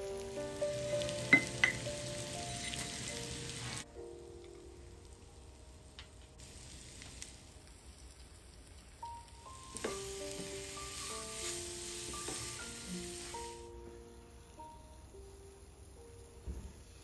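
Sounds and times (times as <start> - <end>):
potatoes sizzling in a pan: 0.0 - 17.0.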